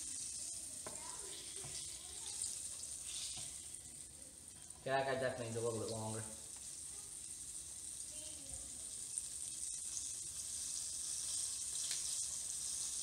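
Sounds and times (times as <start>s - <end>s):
fish deep-frying in oil: 0.0s - 13.0s.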